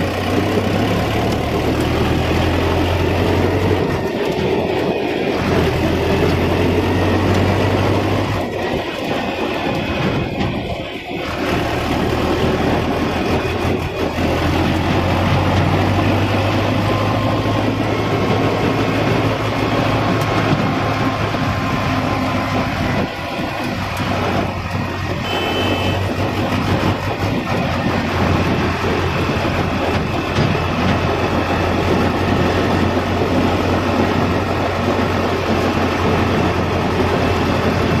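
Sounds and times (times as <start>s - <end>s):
farm machinery engine humming: 0.0s - 38.0s.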